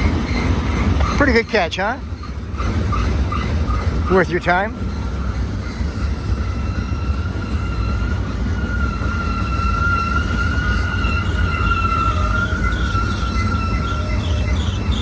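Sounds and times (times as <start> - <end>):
train cars rumbling past: 0.0 - 15.0
train wheel squealing: 0.0 - 15.0.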